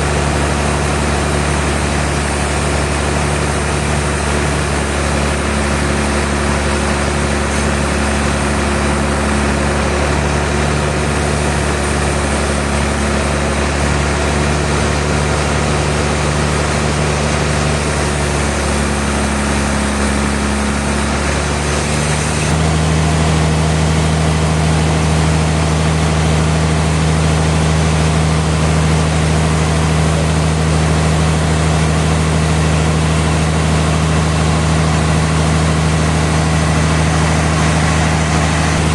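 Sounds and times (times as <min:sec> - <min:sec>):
sawmill machinery drone: 0:00.0 - 0:38.9.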